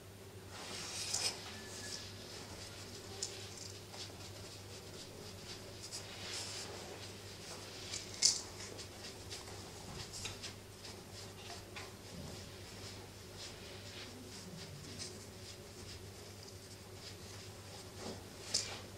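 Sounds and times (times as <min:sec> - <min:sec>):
faint low hum: 0:00.0 - 0:18.9.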